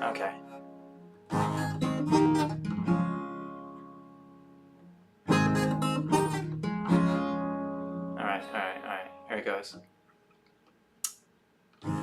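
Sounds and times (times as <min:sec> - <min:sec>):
acoustic guitar strumming: 0:00.0 - 0:09.6.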